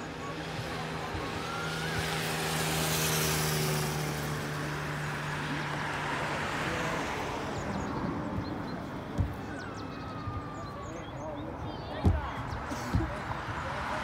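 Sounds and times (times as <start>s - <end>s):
steady engine hum: 0.0s - 14.0s.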